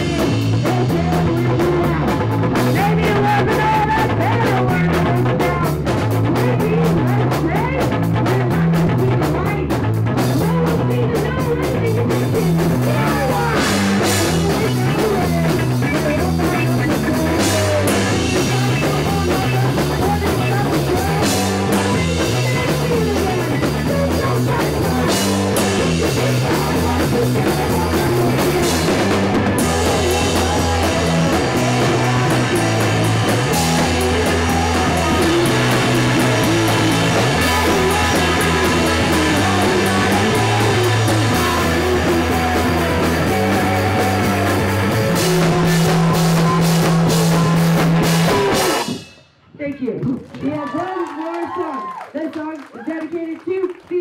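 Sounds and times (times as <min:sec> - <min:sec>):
rock band playing: 0:00.0 - 0:49.3
bass line: 0:00.0 - 0:50.2.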